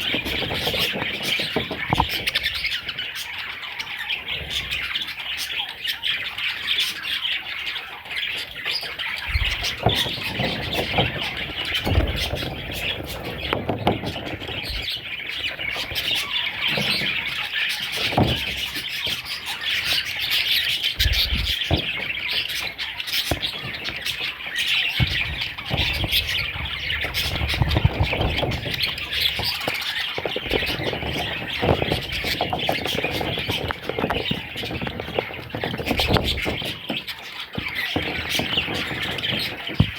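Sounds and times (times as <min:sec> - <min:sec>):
baby budgerigars chirping: 0:00.0 - 0:39.9.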